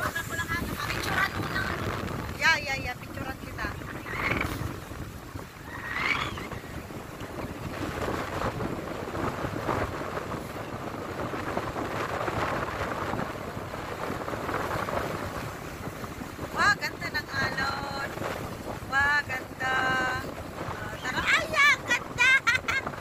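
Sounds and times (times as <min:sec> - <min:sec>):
surf breaking against rocks: 0:00.0 - 0:23.0
wind buffeting microphone: 0:00.0 - 0:23.0.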